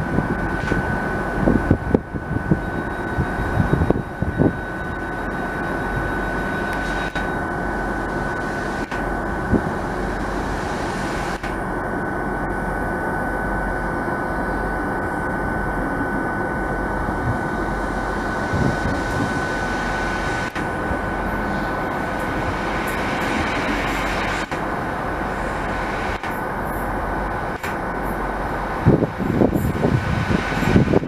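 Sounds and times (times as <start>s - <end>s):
high-pitched whine: 0.0s - 31.0s
train rumbling: 0.0s - 31.0s.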